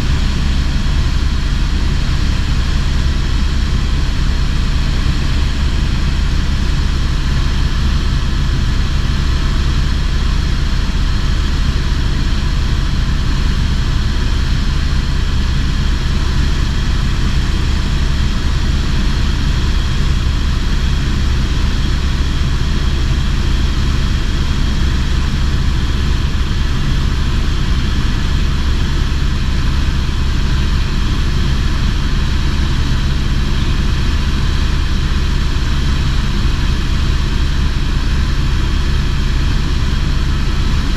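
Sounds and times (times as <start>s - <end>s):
helicopter drone from inside cabin: 0.0s - 40.9s.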